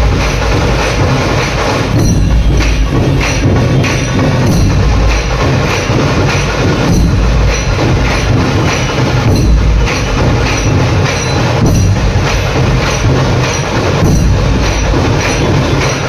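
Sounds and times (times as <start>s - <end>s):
dhol barrel drums beating: 0.0s - 16.0s
kettle drums beating: 0.0s - 16.0s.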